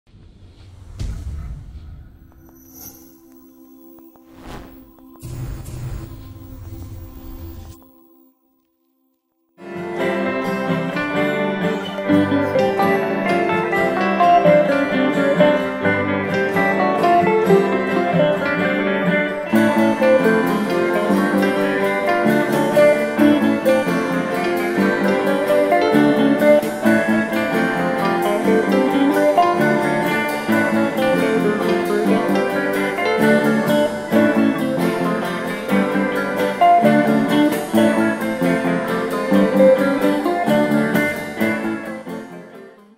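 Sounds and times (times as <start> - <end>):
guitar background music: 3.2 - 8.3, 9.6 - 42.9.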